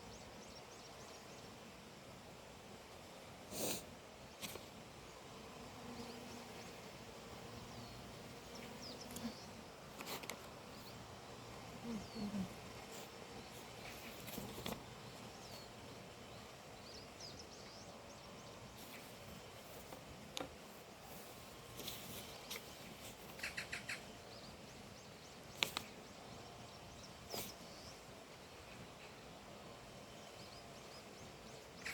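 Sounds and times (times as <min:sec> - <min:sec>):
background hiss: 0:00.0 - 0:31.9.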